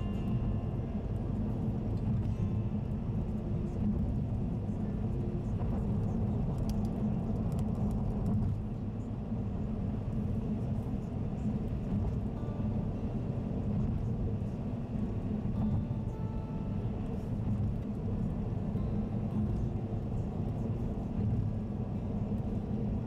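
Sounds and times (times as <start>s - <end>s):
tyre and engine rumble: 0.0s - 23.0s.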